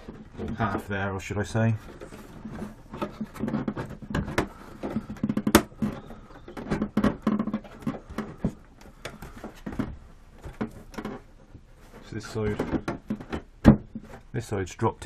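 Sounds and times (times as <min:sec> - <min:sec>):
plastic clicks taps and rubbing: 0:01.8 - 0:14.3.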